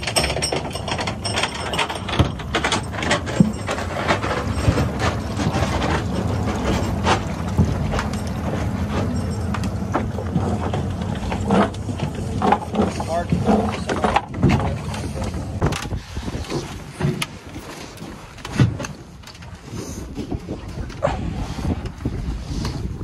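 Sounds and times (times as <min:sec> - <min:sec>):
boat engine running: 0:00.0 - 0:23.0
hull knocking and splashing: 0:00.0 - 0:23.0.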